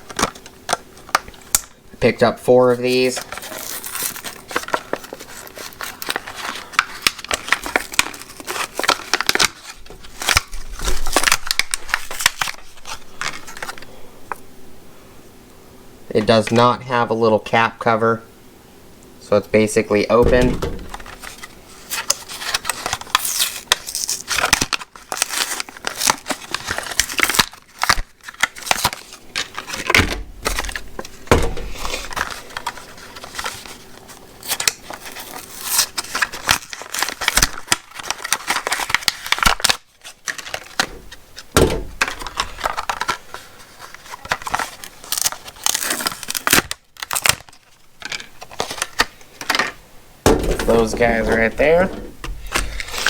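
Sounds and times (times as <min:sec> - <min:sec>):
packaging crinkling and tearing: 0:00.0 - 0:01.8, 0:02.7 - 0:14.4, 0:20.4 - 0:49.8, 0:50.4 - 0:53.0.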